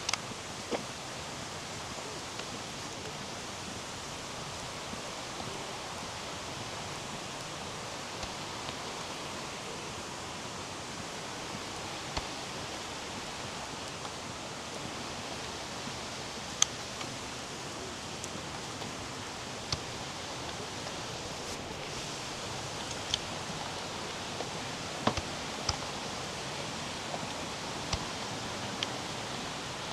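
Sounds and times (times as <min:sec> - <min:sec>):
faint clicks: 0:00.0 - 0:01.0, 0:06.4 - 0:29.9
flowing water rushing: 0:00.0 - 0:29.9.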